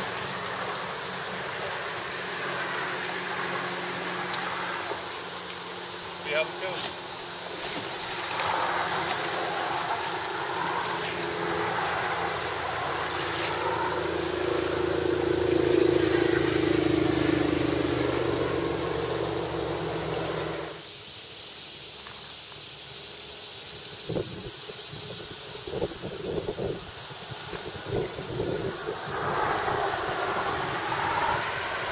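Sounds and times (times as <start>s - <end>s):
traffic rumble on bridge: 0.0s - 20.8s, 27.2s - 31.9s.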